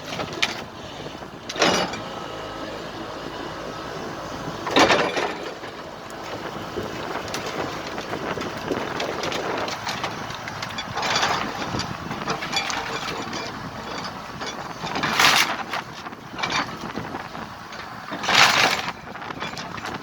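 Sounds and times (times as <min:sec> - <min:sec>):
heavy machinery rattling and grinding: 0:00.0 - 0:20.0.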